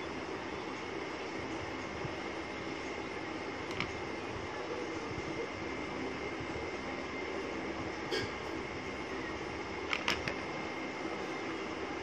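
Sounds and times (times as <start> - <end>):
steady whir and hiss: 0.0 - 12.0.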